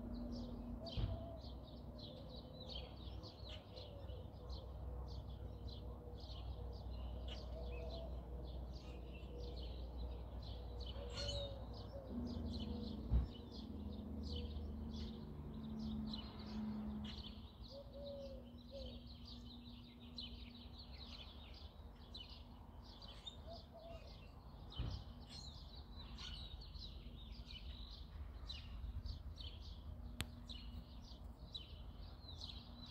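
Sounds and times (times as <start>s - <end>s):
birds chirping and twittering: 0.0s - 32.9s.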